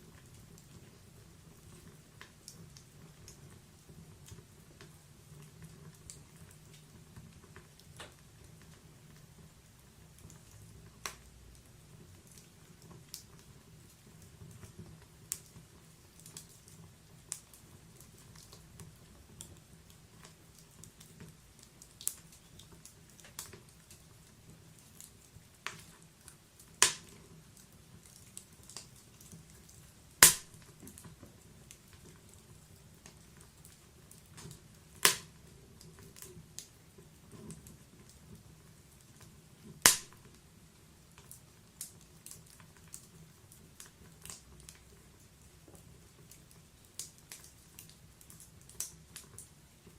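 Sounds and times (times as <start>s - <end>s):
faint hiss of flames: 0.0s - 49.9s
logs crackling and popping: 0.0s - 49.9s
sharp fire snaps: 0.1s - 49.9s.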